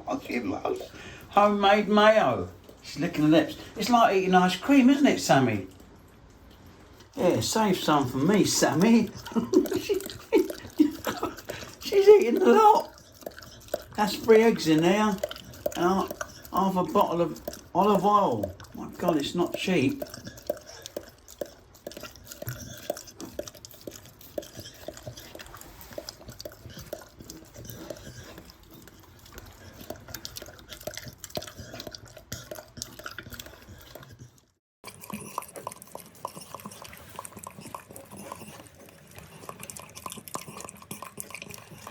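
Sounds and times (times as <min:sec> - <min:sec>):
dog licking: 0:00.0 - 0:41.9.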